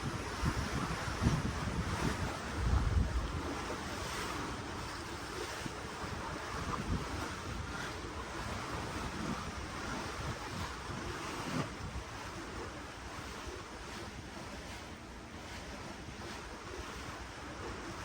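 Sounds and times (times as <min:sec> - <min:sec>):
wind buffeting microphone: 0:00.0 - 0:14.7
ocean water churning: 0:00.0 - 0:18.0.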